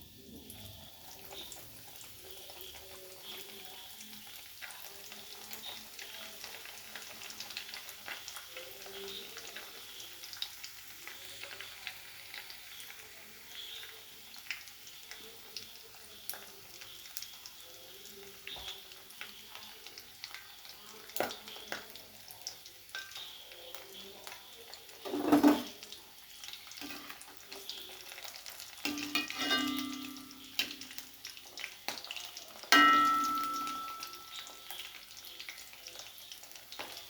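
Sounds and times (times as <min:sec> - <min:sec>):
chicken frying in oil: 0:00.0 - 0:37.0.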